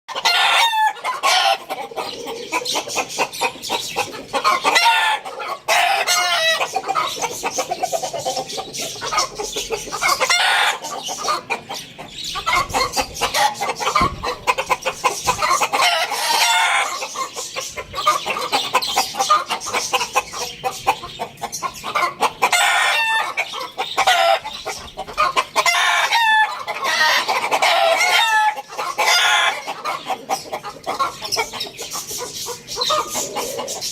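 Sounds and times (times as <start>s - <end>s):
chickens clucking: 0.1s - 33.9s
roosters crowing: 0.1s - 33.9s.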